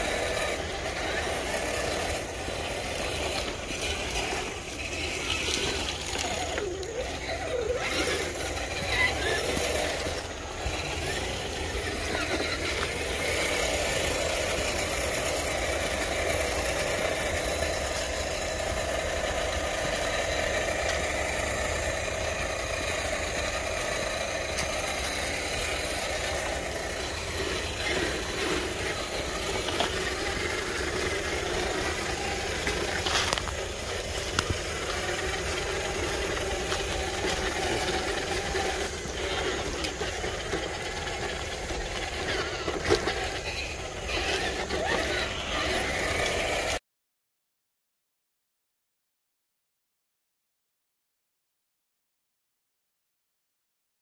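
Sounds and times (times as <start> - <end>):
rc truck motor whine: 0.0 - 46.8.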